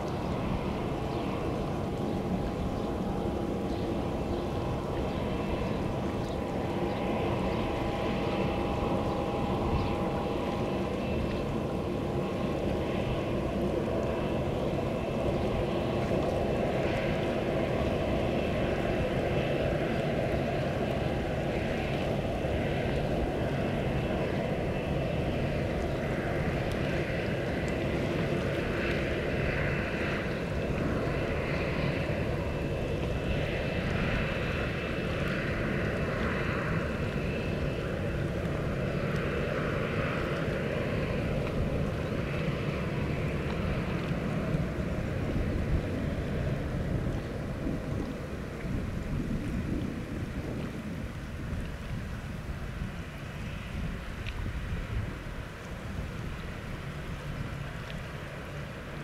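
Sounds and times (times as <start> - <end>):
jet engines rumbling with high whine: 0.0 - 59.0.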